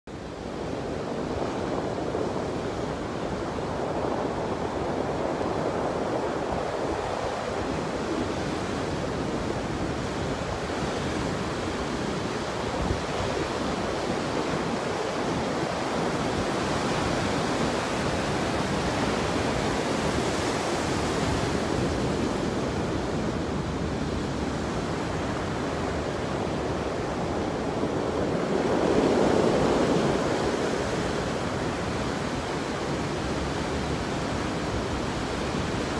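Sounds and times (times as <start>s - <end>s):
wind buffeting microphone: 0.1s - 35.9s
surf waves breaking: 0.2s - 35.9s.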